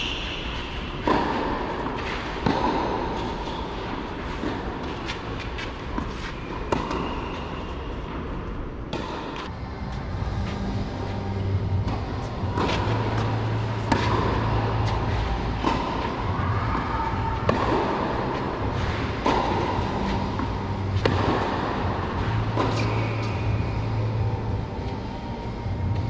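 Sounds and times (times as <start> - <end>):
tennis balls struck by rackets: 0.0 - 9.5, 11.8 - 24.3
low hum: 0.0 - 26.0.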